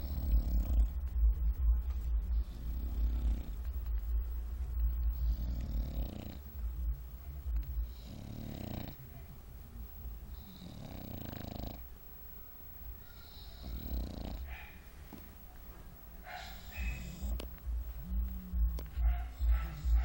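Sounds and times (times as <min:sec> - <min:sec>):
dog snoring: 0:00.0 - 0:09.4, 0:10.2 - 0:11.8, 0:13.0 - 0:15.3, 0:16.2 - 0:20.0.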